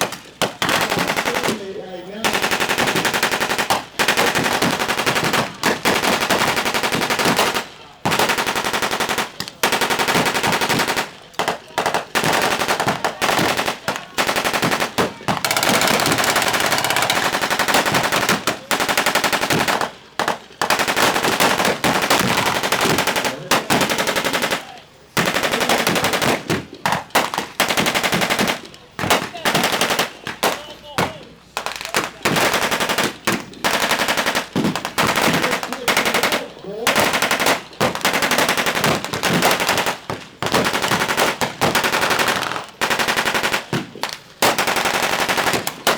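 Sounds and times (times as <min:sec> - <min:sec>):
rapid gunfire bursts: 0:00.0 - 0:45.9.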